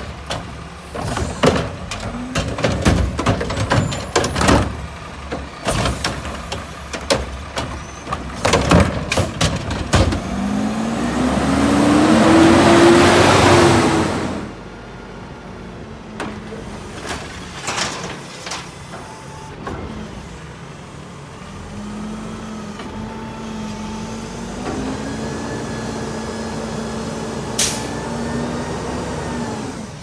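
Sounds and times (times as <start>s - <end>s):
garbage truck engine revving: 0.1s - 14.8s, 19.8s - 30.0s.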